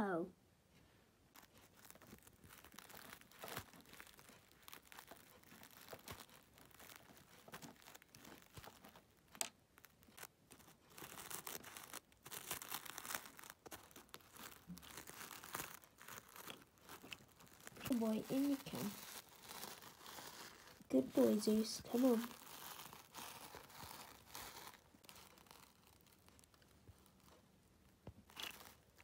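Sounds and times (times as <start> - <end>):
plastic toy rustling and scraping: 0.7 - 29.0.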